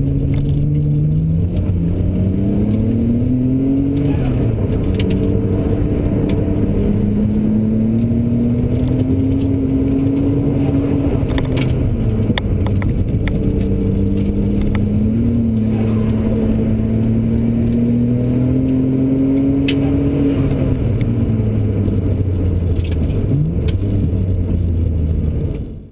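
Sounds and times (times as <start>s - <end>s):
car engine running: 0.0s - 25.9s
road rumble: 0.0s - 25.9s.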